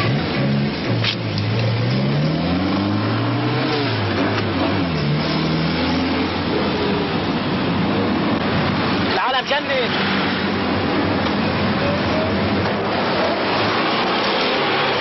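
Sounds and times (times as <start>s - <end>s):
car engine revving: 0.0s - 15.0s
traffic noise: 0.0s - 15.0s.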